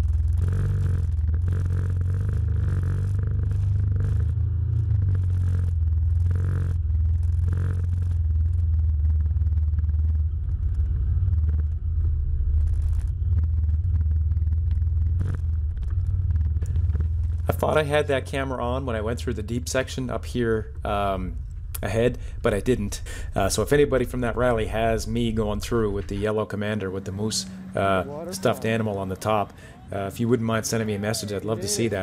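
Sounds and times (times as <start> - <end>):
off-road vehicle engine running: 0.0 - 32.0.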